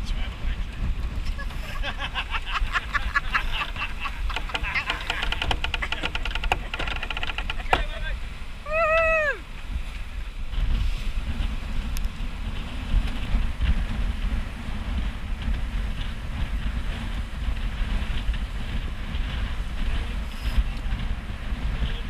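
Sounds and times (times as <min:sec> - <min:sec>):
low rumble: 0:00.0 - 0:22.0
water rushing along a hull: 0:00.0 - 0:22.0
wind buffeting the microphone: 0:00.0 - 0:22.0.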